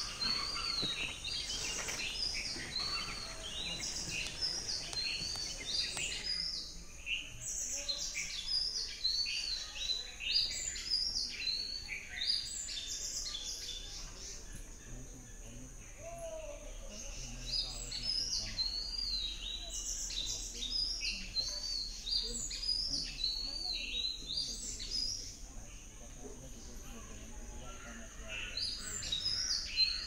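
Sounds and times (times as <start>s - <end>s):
chorus of birds chirping: 0.0s - 30.0s.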